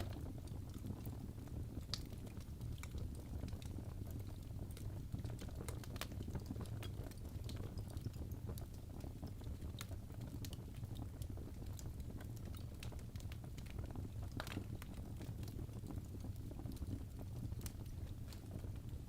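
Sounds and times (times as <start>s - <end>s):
burning logs crackling and popping: 0.0s - 19.0s
low rumble of flames: 0.0s - 19.0s.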